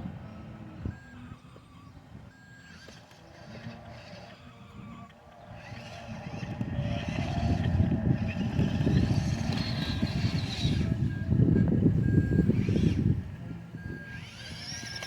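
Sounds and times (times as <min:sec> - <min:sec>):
electric motor whine: 0:00.0 - 0:15.0
model truck tyres rumbling: 0:00.0 - 0:15.0.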